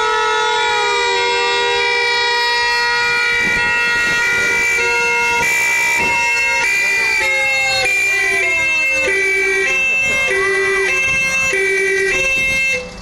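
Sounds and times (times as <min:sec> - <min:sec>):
two-tone fire engine siren: 0:00.0 - 0:13.0.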